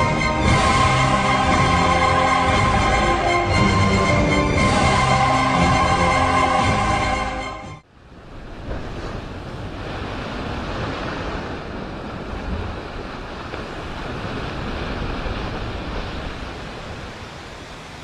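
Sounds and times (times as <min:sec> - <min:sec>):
steady rushing noise: 0:00.0 - 0:10.8, 0:11.5 - 0:18.0.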